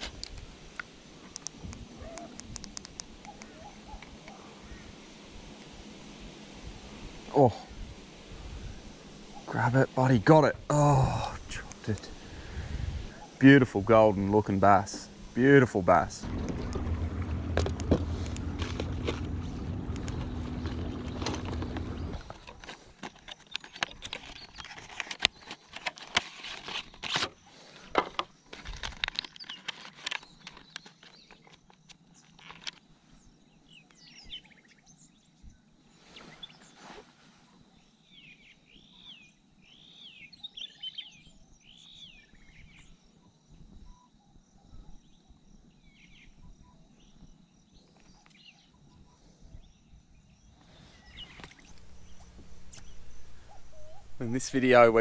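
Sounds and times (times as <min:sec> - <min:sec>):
birds chirping: 0:01.1 - 0:05.0, 0:08.7 - 0:26.0, 0:26.6 - 0:43.2, 0:43.8 - 0:55.0.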